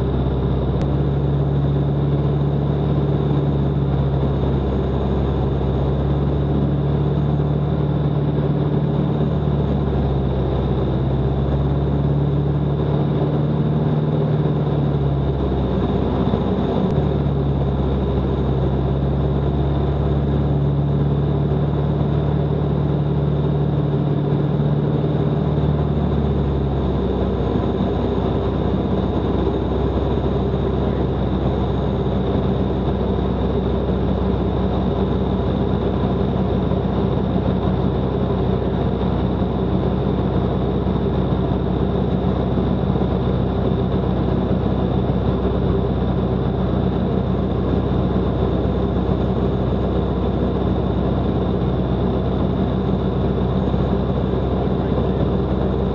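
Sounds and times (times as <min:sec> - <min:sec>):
aircraft engine and propeller: 0:00.0 - 0:55.9.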